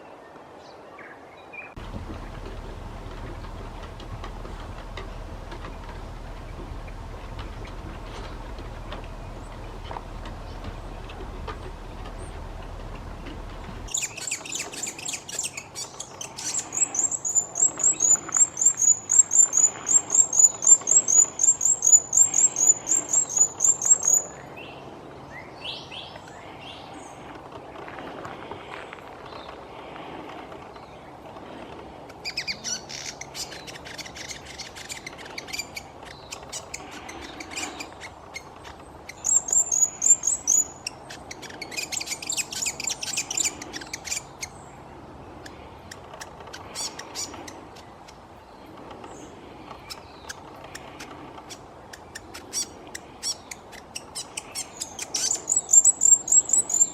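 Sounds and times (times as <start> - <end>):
small birds chirping: 1.4 - 56.9.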